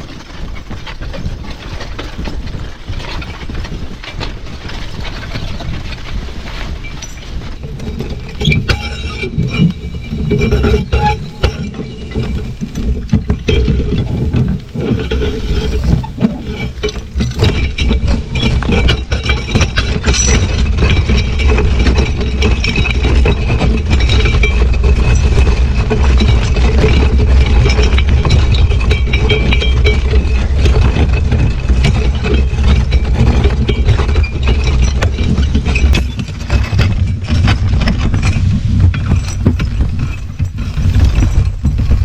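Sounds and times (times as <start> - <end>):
horse-drawn cultivator rattling: 0.0 - 42.0.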